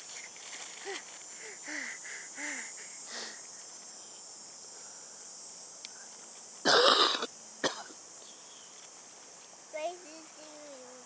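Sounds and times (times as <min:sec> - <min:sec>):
insects chirring in grass: 0:00.0 - 0:11.0.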